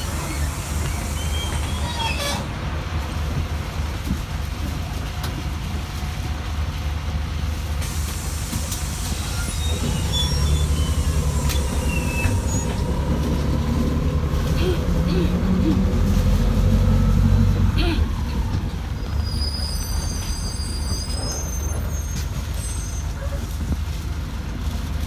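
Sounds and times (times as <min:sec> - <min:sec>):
bus engine rumbling: 0:00.0 - 0:25.0.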